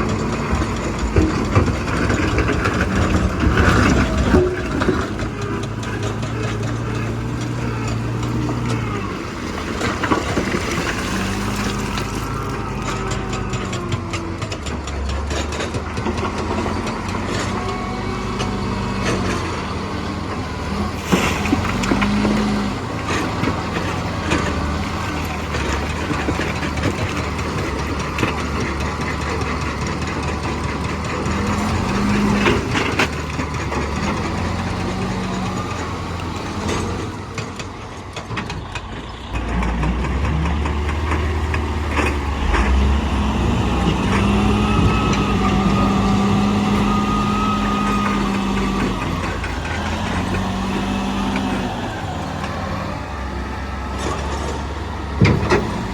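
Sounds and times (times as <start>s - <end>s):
diesel machinery engine revving: 0.0s - 55.9s
knocks and clatters: 0.0s - 55.9s.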